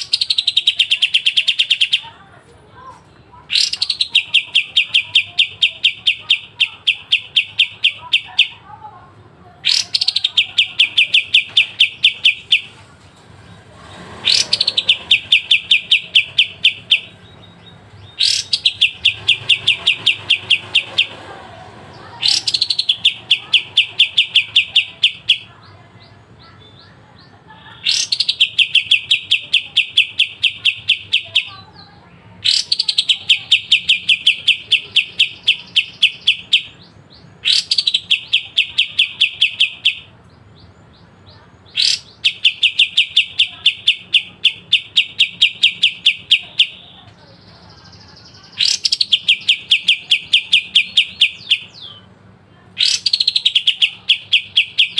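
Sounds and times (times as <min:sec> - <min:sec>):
songbird singing rapid trills: 0:00.0 - 0:02.1, 0:03.4 - 0:08.6, 0:09.6 - 0:13.5, 0:14.2 - 0:52.1, 0:52.8 - 0:54.9.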